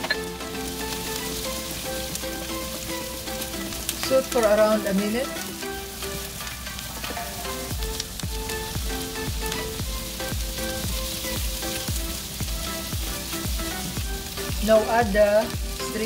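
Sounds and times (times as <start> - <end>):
background music with steady beat: 0.0 - 16.0
spatula stirring in a pan: 0.0 - 16.0
vegetables sizzling in a frying pan: 0.0 - 16.0.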